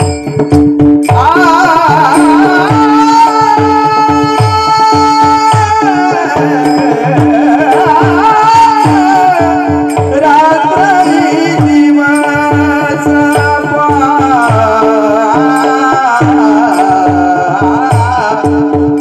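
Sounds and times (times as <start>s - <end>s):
hand drum strokes: 0.0s - 19.0s
person singing devotional song: 1.0s - 19.0s.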